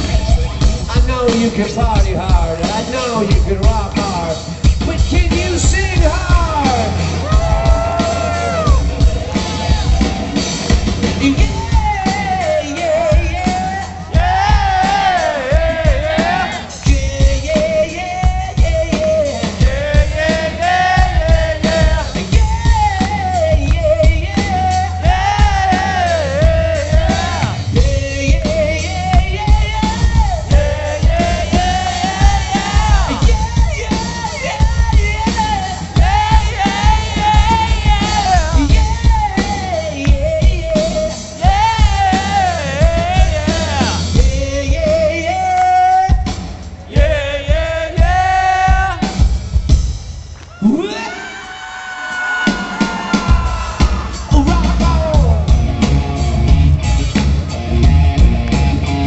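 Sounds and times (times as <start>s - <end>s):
singer singing: 0.0s - 49.4s, 50.5s - 56.5s
rock band playing: 0.0s - 59.0s.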